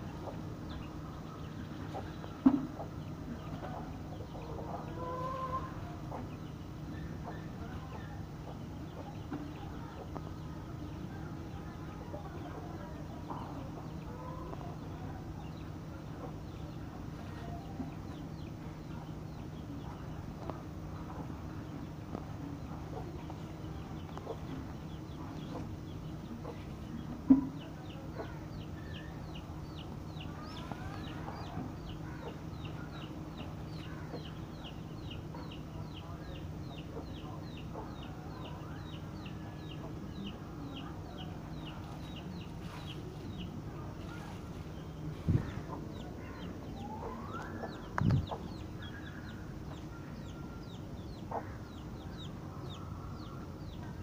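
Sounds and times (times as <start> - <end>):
chicken calls: 0.0 - 54.0
chicks cheeping: 0.0 - 54.0
steady low hum: 0.0 - 54.0.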